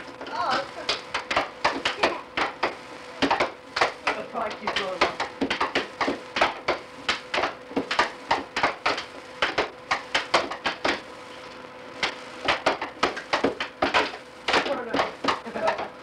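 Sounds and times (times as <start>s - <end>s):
steady hum: 0.0s - 16.0s
air hockey puck and mallets clacking: 0.5s - 11.0s, 12.0s - 15.9s.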